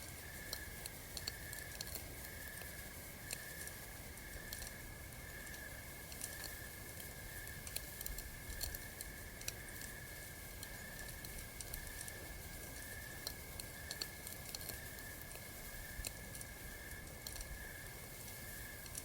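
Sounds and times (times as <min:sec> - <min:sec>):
campfire crackling: 0:00.0 - 0:19.0
night insects trilling: 0:00.0 - 0:19.0.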